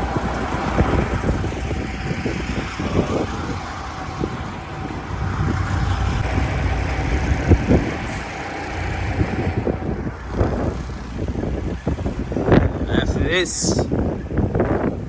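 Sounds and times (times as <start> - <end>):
diesel truck engine running: 0.0 - 13.3
wind rumbling on microphone: 0.0 - 15.0.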